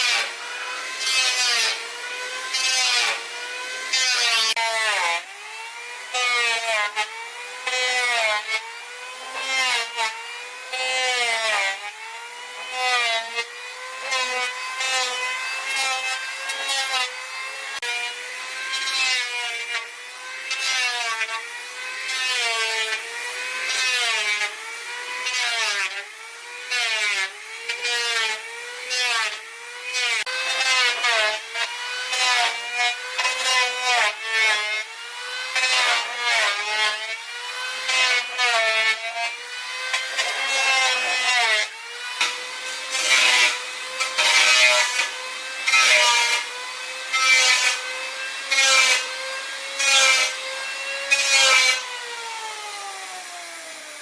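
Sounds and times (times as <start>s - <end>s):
power tool motor cutting wood: 0.0s - 54.0s.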